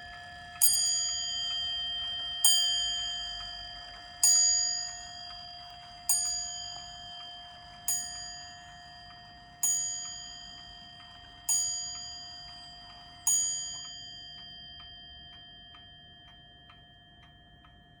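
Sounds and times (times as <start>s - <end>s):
wall clock bell striking: 0.0s - 16.9s
clock pendulum ticking: 0.0s - 17.8s.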